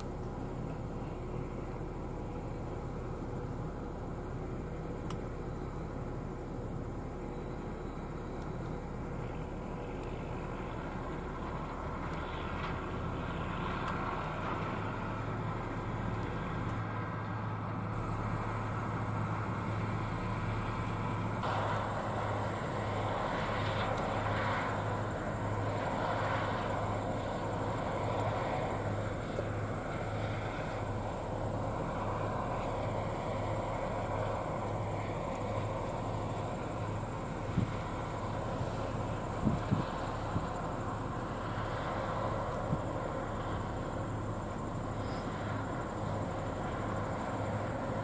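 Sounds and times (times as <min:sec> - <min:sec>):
combine harvester engine hum: 0:00.0 - 0:48.0
machinery rumble: 0:00.0 - 0:48.0.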